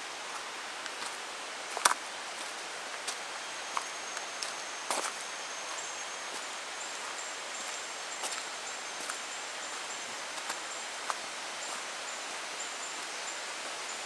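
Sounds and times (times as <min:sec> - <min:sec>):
forest ambience hiss: 0:00.0 - 0:14.0
footsteps crunching on leaves: 0:00.2 - 0:12.1
thin high steady tone: 0:01.4 - 0:14.0.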